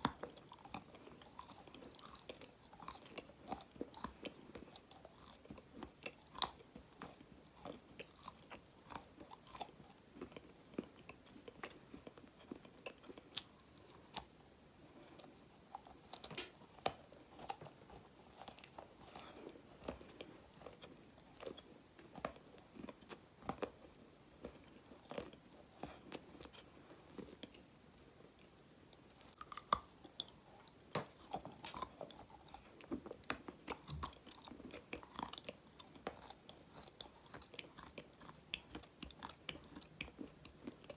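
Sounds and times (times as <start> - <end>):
chewing crunchy clay: 0.0 - 40.9.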